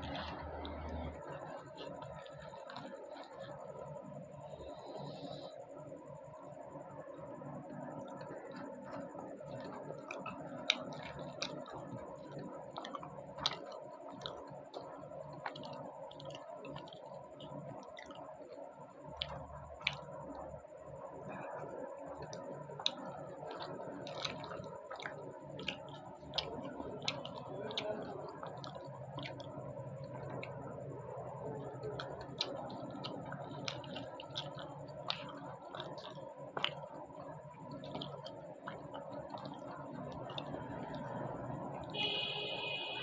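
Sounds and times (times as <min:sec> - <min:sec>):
person chewing: 0:00.0 - 0:05.6, 0:07.9 - 0:20.4, 0:21.2 - 0:42.4.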